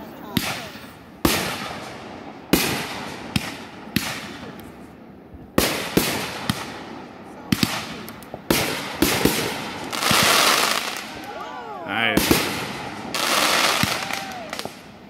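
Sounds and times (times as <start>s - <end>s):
fireworks bursting with echoing rumble: 0.1s - 11.4s, 12.0s - 15.0s.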